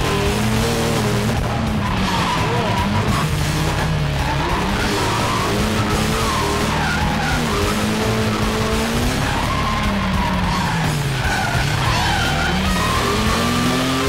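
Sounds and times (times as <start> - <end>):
car engine revving: 0.0 - 14.0
tyres skidding: 0.0 - 14.0.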